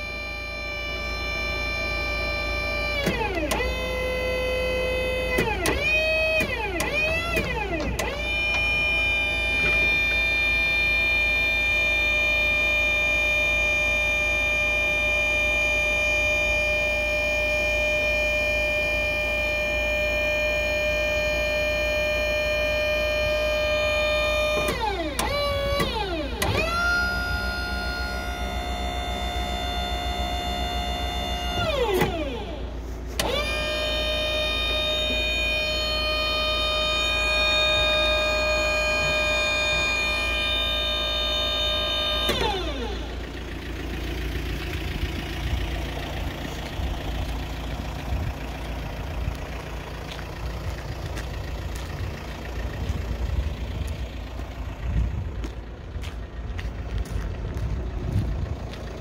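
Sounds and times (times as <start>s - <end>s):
hydraulic pump whining: 0.0s - 59.0s
steady low hum: 0.0s - 59.0s.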